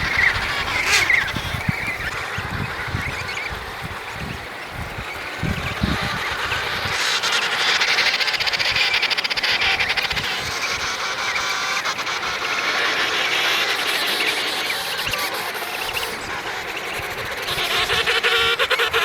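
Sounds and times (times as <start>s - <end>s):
high-pitched penguin calls: 0.0s - 4.3s, 5.4s - 19.0s
penguins calling: 0.0s - 19.0s.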